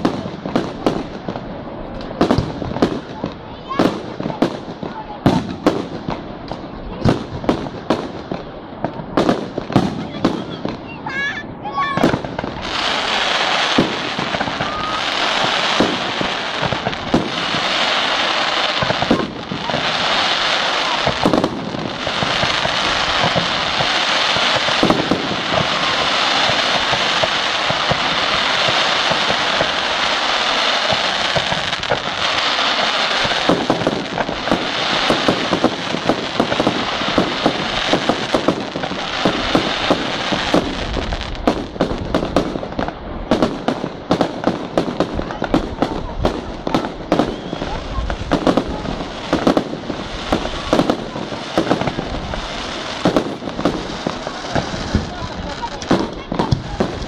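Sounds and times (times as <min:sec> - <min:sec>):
firework fountains crackling hiss: 0:00.0 - 0:57.0.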